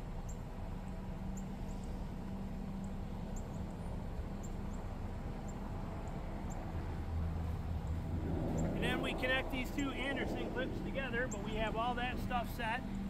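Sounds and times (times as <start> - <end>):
pickup truck idling: 0.0 - 13.0.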